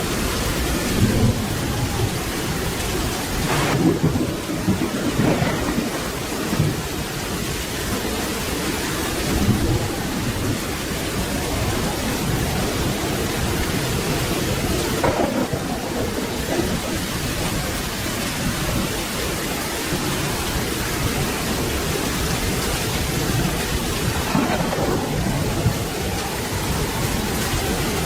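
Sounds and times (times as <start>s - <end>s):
steady rain: 0.0s - 28.0s
thunder rumbling low: 0.0s - 28.0s.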